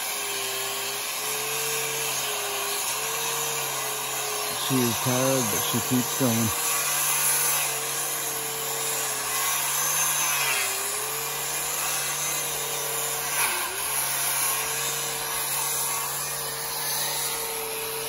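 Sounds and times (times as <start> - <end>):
electric sander whining and hissing: 0.0 - 18.0.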